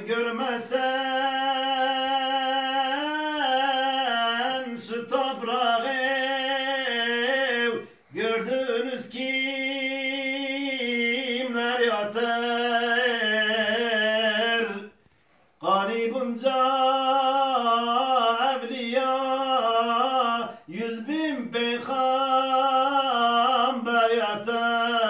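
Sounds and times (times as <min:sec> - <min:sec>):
man singing unaccompanied hymn: 0:00.0 - 0:25.0.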